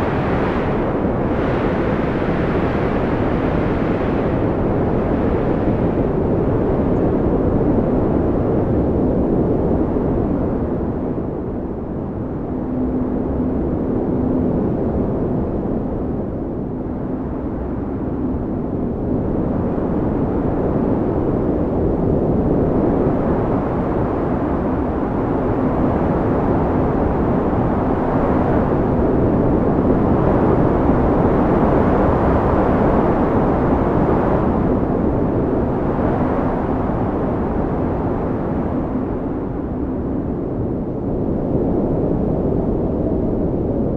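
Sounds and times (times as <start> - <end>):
strong wind blowing in gusts: 0.0 - 43.9.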